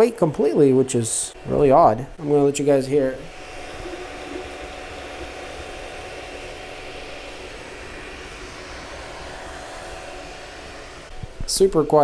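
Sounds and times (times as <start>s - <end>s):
cooling fan whirring: 0.0s - 12.0s
faint steady tones: 0.1s - 12.0s.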